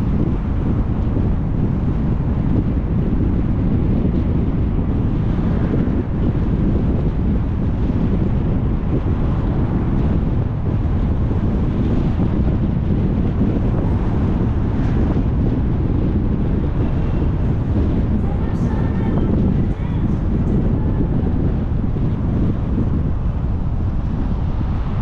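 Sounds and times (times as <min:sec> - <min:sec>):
car road and tyre noise: 0:00.0 - 0:25.0
wind buffeting microphone: 0:00.0 - 0:25.0.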